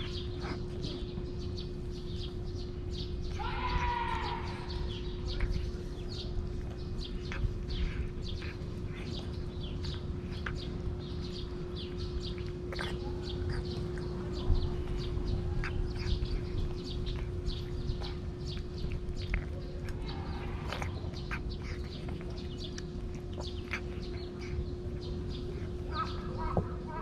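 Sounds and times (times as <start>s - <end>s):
cat chewing and licking food: 0.0s - 3.4s, 4.6s - 27.0s
low hum: 0.0s - 27.0s.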